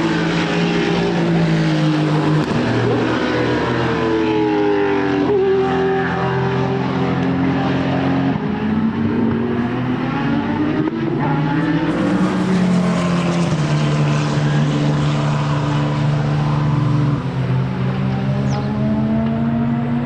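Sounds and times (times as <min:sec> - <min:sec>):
racing car engine: 0:00.0 - 0:20.0.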